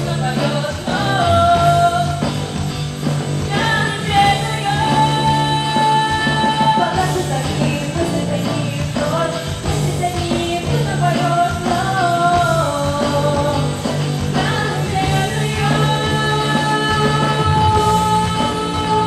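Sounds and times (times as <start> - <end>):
pop-rock song with singing: 0.0 - 19.0.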